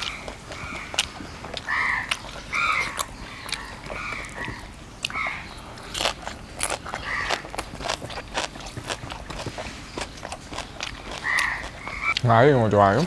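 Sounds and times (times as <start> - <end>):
person chewing and crunching food: 0.0 - 12.3.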